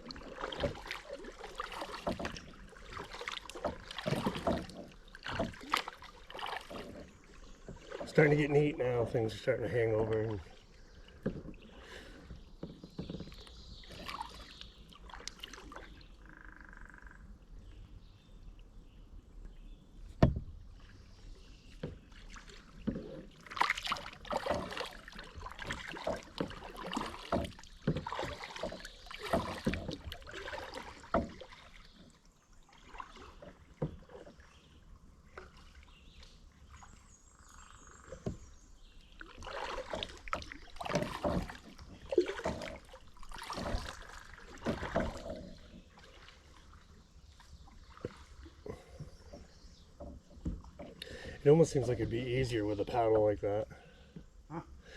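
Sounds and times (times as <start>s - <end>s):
kayak paddle splashing in water: 0.0s - 17.0s, 19.7s - 53.6s.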